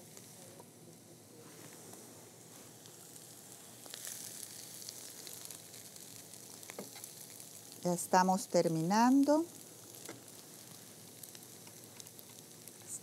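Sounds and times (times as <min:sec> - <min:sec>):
stuffing sizzling in a skillet: 0:00.0 - 0:13.0.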